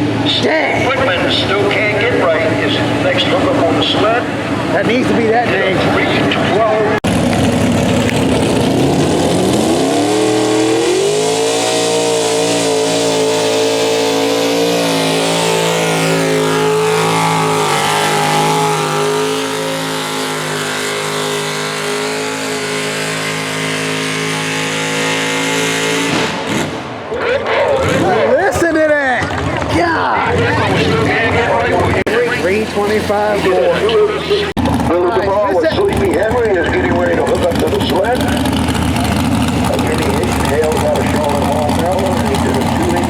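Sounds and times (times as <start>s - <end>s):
tractor engine revving: 0.0s - 43.0s.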